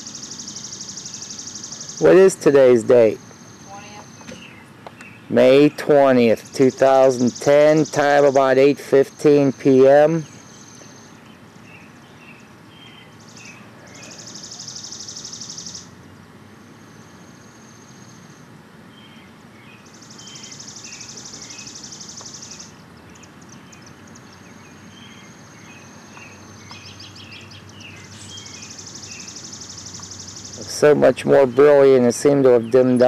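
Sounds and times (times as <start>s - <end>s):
bird high rapid trill: 0.0s - 16.0s, 19.2s - 33.0s
outdoor background hiss: 0.0s - 33.0s.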